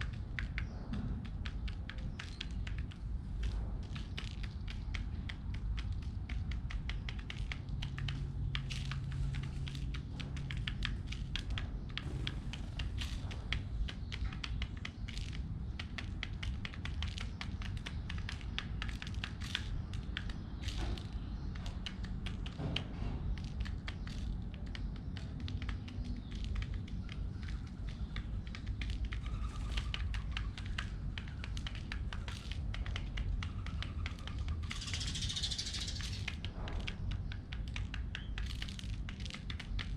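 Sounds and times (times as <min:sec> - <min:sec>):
pigeons pecking seeds: 0:00.0 - 0:39.9.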